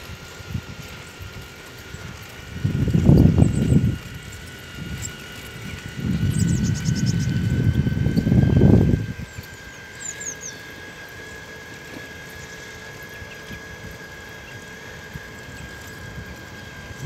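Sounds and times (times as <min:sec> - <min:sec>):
faint hum with high tone: 0:00.0 - 0:17.0.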